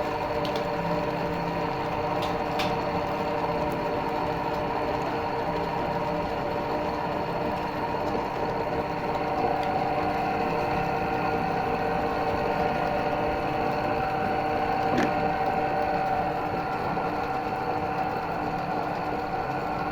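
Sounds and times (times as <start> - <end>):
meat grinder motor humming: 0.0 - 19.9.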